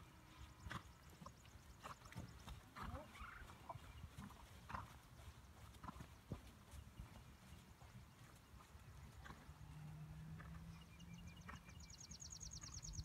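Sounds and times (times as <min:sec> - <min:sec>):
horse hooves on sand: 0:00.0 - 0:11.8.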